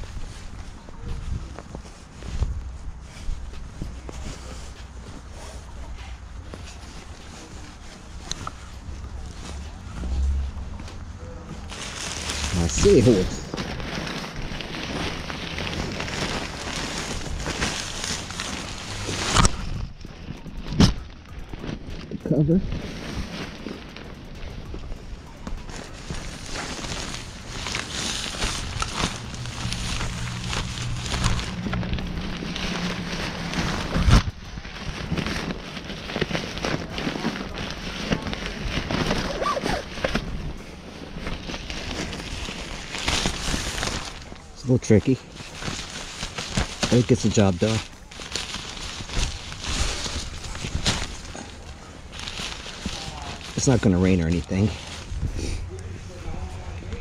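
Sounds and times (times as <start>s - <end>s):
fabric cover rustling: 0.0s - 57.0s.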